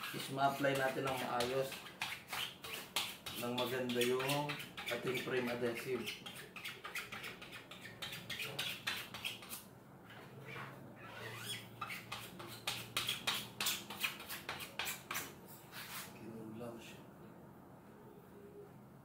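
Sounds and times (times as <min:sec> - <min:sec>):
squeegee scraping mesh: 0:00.0 - 0:16.2.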